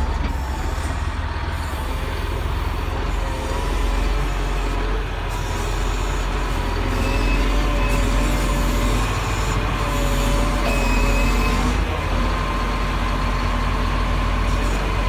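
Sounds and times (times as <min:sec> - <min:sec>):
diesel engine rumbling with whine: 0:00.0 - 0:15.0.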